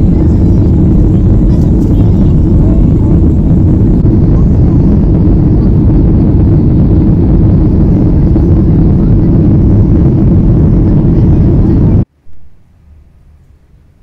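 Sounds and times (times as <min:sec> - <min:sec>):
airliner cabin engine rumble: 0:00.0 - 0:12.5.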